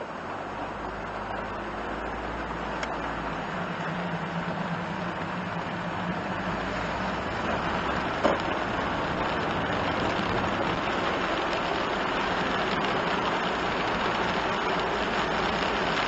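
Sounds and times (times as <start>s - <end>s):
engine running: 0.0s - 16.0s
rain on windshield: 0.0s - 16.0s
tyres hissing on wet road: 0.0s - 16.0s.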